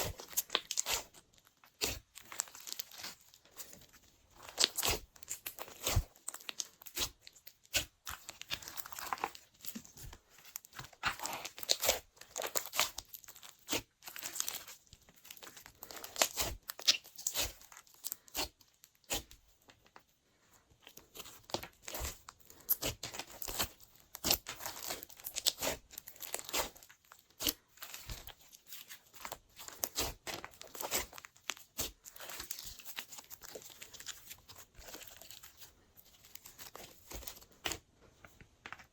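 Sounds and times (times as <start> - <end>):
hands squishing sticky slime: 0.0 - 20.1, 20.8 - 38.9.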